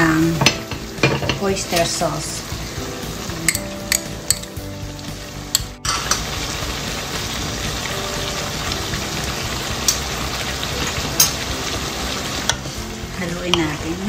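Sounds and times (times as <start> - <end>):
meat and onions sizzling in pan: 0.0 - 14.0.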